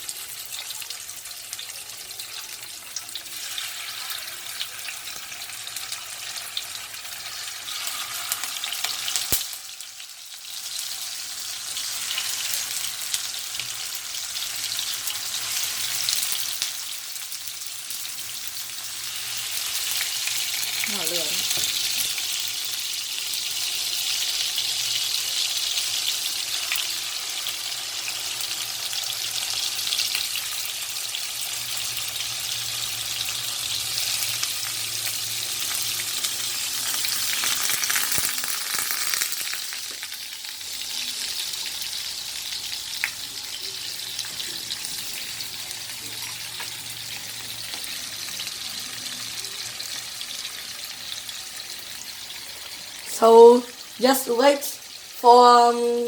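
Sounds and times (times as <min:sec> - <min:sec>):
tofu sizzling in oil: 0:00.0 - 0:56.0.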